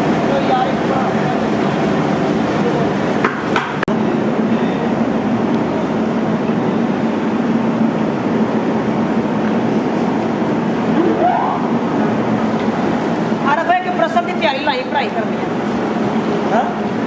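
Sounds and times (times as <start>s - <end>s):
factory machinery humming: 0.0s - 17.0s.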